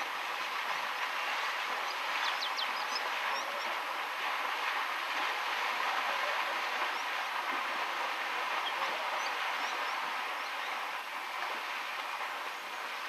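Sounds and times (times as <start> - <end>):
river water flowing over stones: 0.0 - 13.0.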